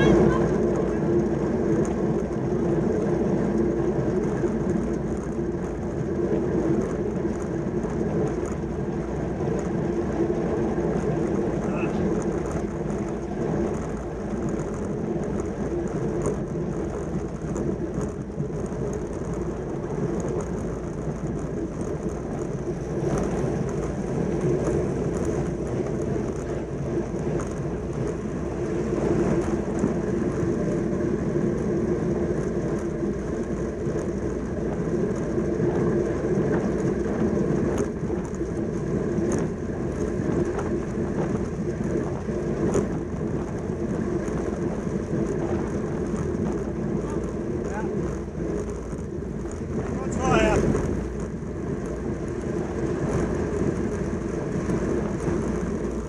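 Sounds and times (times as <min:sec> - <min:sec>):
bicycle tyre rumble: 0:00.0 - 0:56.0
wind rushing on microphone: 0:00.0 - 0:56.0.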